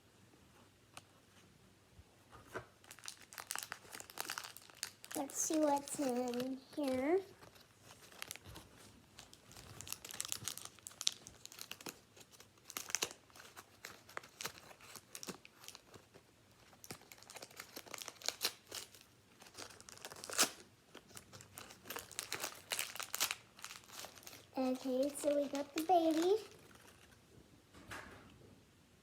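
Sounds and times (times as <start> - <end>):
plastic packet crinkling and tearing: 2.7 - 27.2.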